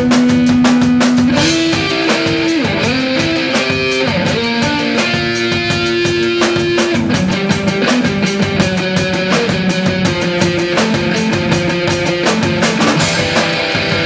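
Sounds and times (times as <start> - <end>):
drums and cymbals: 0.0 - 14.0
electric guitar sustained notes: 1.3 - 14.0.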